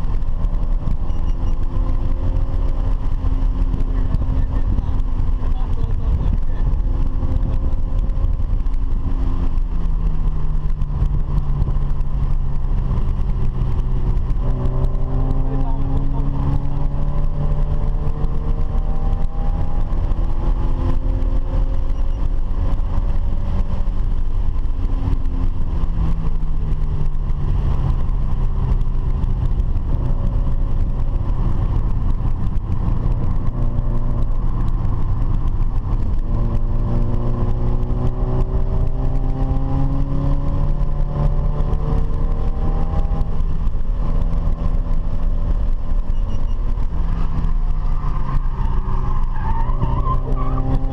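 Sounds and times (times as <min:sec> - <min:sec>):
car engine accelerating: 0:00.0 - 0:50.9
low road rumble: 0:00.0 - 0:50.9.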